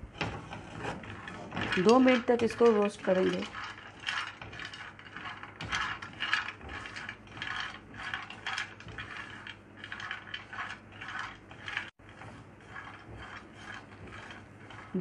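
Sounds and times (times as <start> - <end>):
nuts rattling in a frying pan: 0.0 - 15.0.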